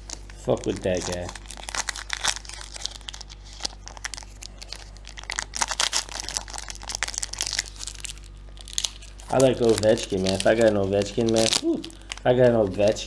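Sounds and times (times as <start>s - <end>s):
card pack wrapper tearing: 0.0s - 13.0s.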